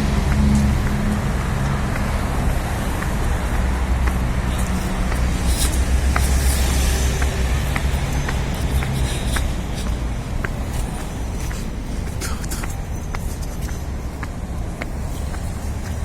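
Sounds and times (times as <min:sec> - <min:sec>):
cars passing: 0:00.0 - 0:16.0
vehicle engines rumbling: 0:00.0 - 0:16.0.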